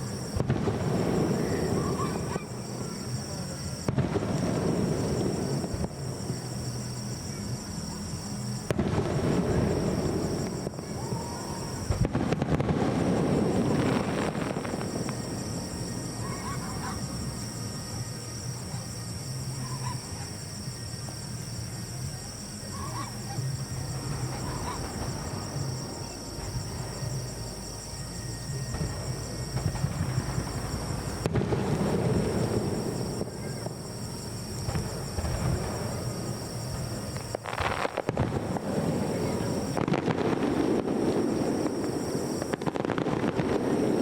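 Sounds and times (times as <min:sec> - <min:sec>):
crowd voices: 0:00.0 - 0:37.6
faint music from loudspeakers: 0:00.0 - 0:42.5
steady high hiss: 0:00.0 - 0:44.0.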